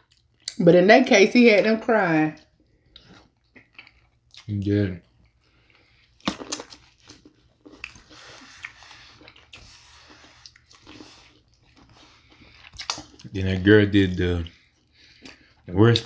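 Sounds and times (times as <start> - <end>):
wet chewing and biting: 2.4 - 13.4, 14.2 - 16.0.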